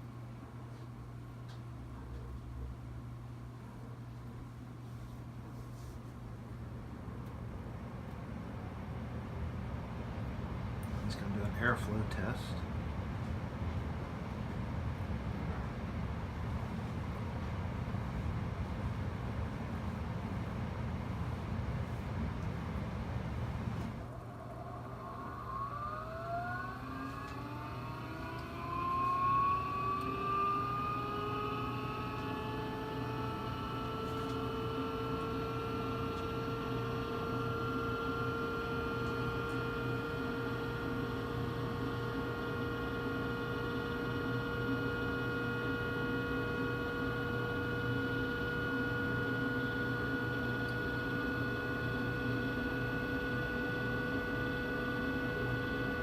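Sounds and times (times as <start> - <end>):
furnace blower whirring: 0.0 - 56.0
low hum: 0.0 - 56.0.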